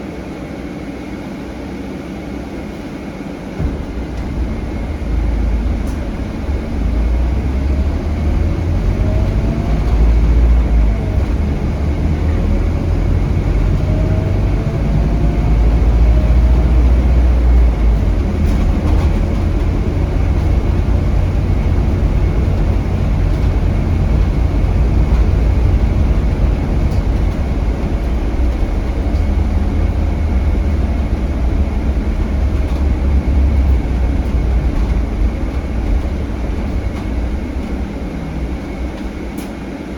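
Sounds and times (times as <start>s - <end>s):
bus diesel engine rumble: 0.0s - 39.9s
road noise: 1.2s - 39.9s.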